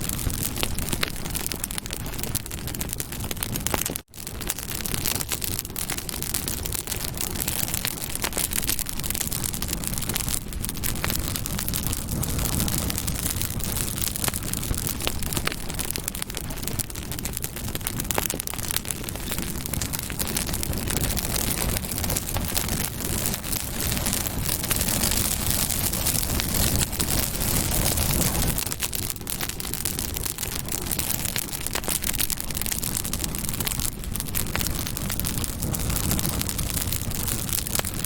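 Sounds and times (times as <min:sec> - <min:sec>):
campfire flames hissing: 0:00.0 - 0:38.0
wood crackling and popping: 0:00.0 - 0:38.0.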